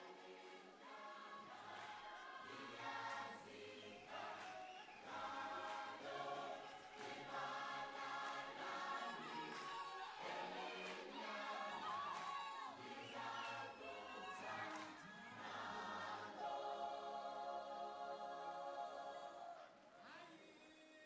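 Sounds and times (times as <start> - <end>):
choir singing sustained chords: 0.0 - 19.8.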